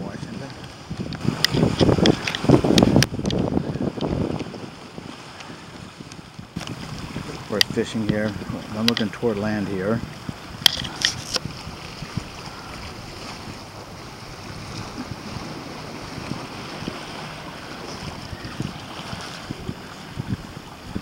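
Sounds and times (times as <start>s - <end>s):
waves washing against rocks: 0.0s - 21.0s
wind buffeting microphone: 0.0s - 21.0s.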